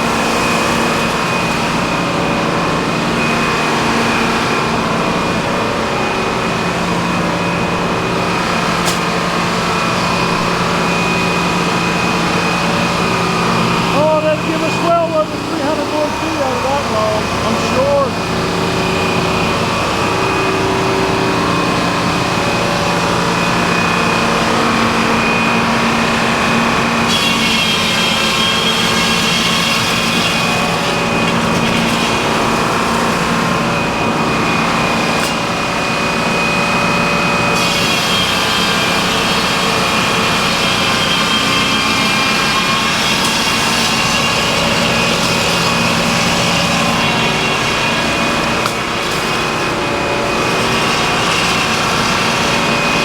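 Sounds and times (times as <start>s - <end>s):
circular saw running: 0.0s - 53.0s
saw blade cutting log: 8.3s - 21.0s, 22.0s - 53.0s.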